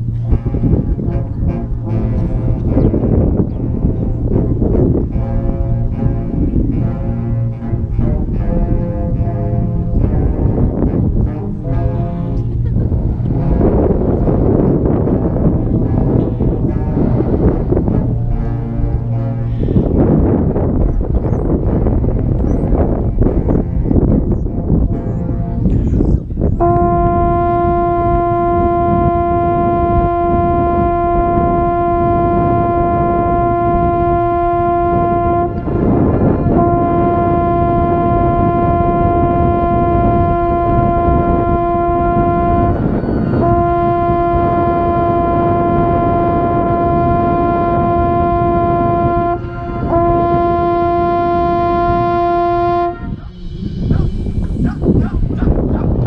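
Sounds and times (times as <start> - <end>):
mellophone long held notes: 0.0 - 20.9, 21.6 - 53.8
low rumble: 0.0 - 56.0.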